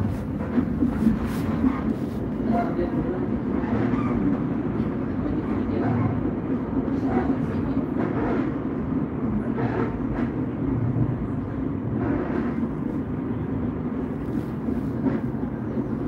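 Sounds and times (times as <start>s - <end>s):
light-rail car running: 0.0s - 16.0s.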